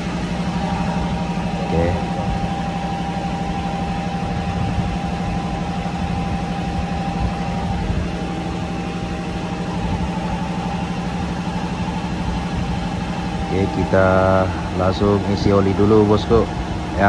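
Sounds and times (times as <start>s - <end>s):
boat diesel engine idling: 0.0s - 17.0s.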